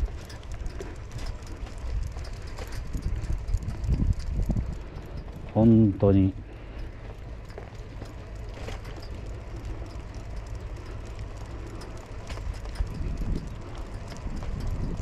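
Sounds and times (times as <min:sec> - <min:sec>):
bicycle tyre noise: 0:00.0 - 0:15.0
light clicks and rattles: 0:00.0 - 0:15.0
wind rumbling on microphone: 0:00.0 - 0:15.0.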